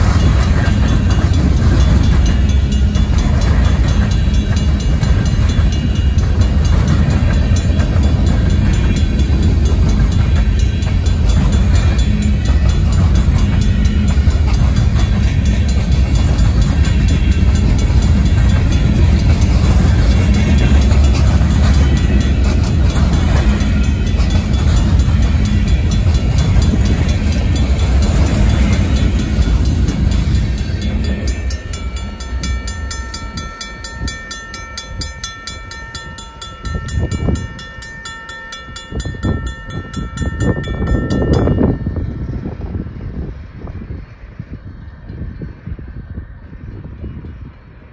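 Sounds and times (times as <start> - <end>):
crossing bell ringing: 0.0 - 43.7
freight train wheels rumbling: 0.0 - 47.9.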